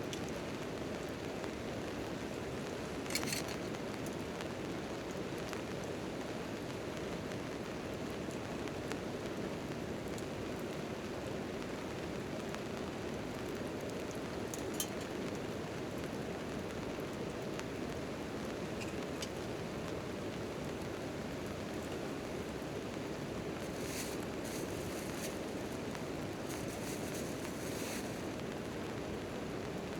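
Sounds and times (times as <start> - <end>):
rain on a tent tarp: 0.0 - 29.9.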